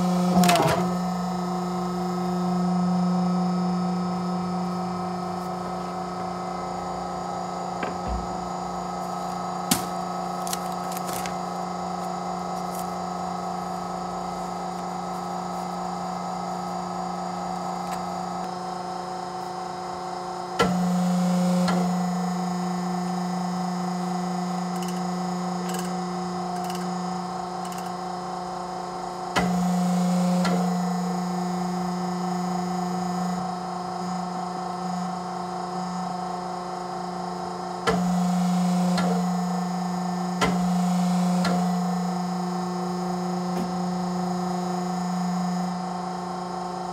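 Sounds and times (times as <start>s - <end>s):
die-cutting press humming: 0.0s - 46.9s.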